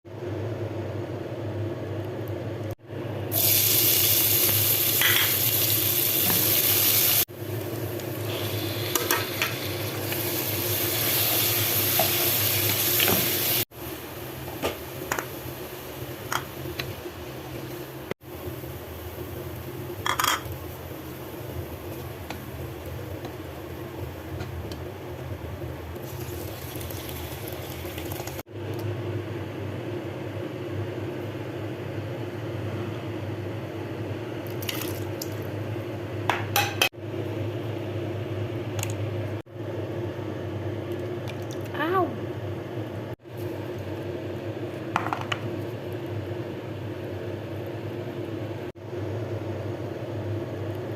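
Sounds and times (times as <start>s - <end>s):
steady mechanical hum: 0.1s - 50.9s.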